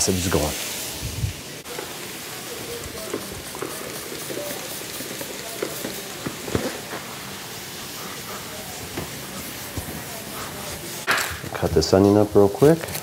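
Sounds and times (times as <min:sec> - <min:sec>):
sausage sizzling in skillet: 0:00.0 - 0:13.0.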